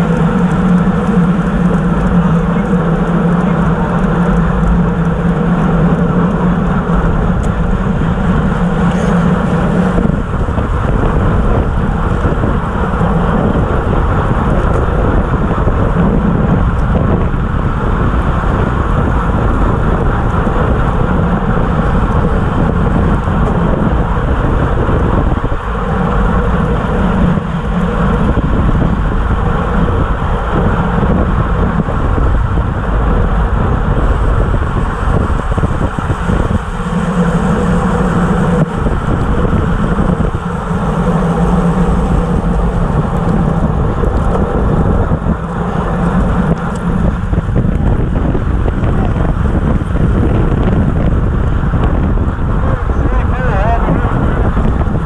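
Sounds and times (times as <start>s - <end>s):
low hum: 0.0s - 55.0s
wind rushing over microphone: 0.0s - 55.0s.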